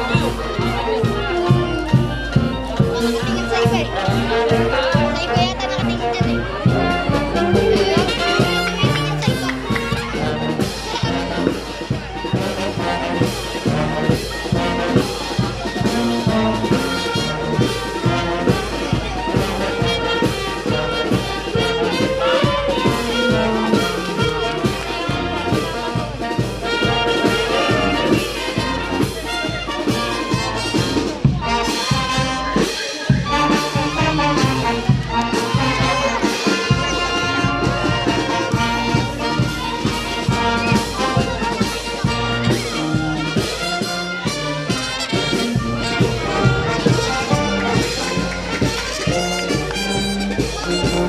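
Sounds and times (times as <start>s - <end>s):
bass drum beat: 0.0s - 51.0s
brass band playing dance tune: 0.0s - 51.0s.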